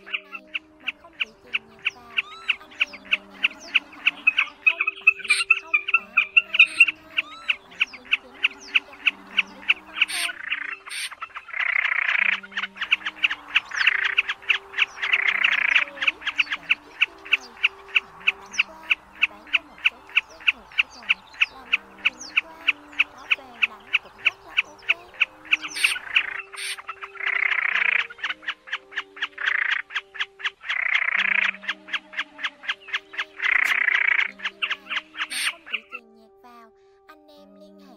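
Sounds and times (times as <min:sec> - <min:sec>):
sharp chipping bird notes: 0:00.0 - 0:35.9
harsh rasping bird calls: 0:00.0 - 0:36.0
faint background music: 0:00.0 - 0:37.9.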